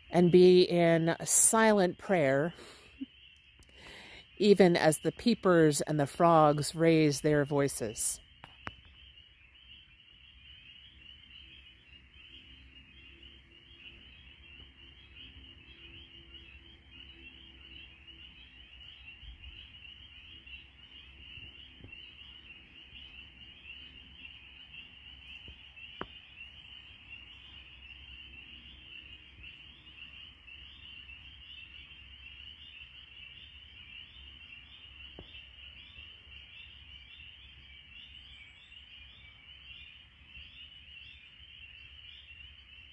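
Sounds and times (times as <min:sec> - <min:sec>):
frogs peeping in chorus: 0:00.0 - 0:42.9.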